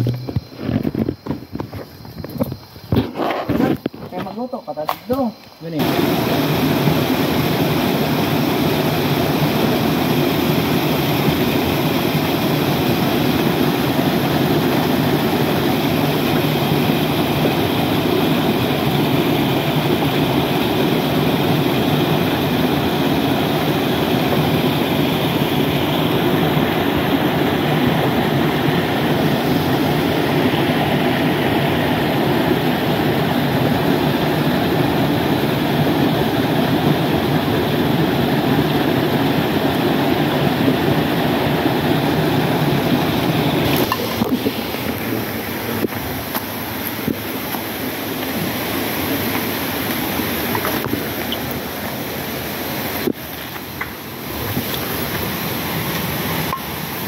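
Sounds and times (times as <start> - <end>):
stream water rushing: 5.4 - 57.0.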